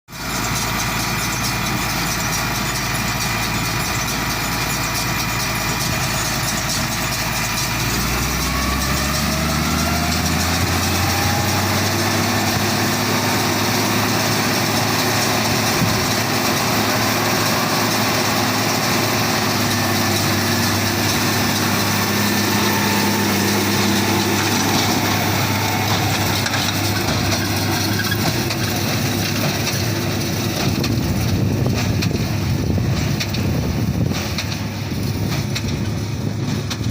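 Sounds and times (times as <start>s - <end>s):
harvesting machine engine running: 0.1s - 36.9s.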